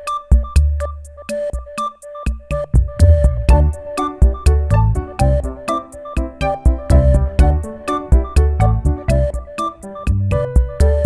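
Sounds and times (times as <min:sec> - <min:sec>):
upbeat electronic music: 0:00.0 - 0:11.0.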